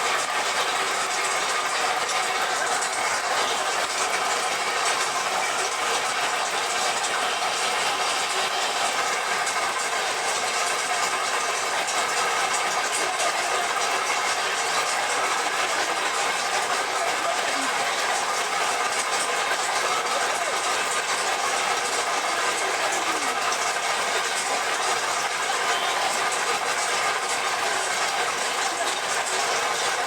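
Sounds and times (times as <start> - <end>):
machine running: 0.1 - 30.0.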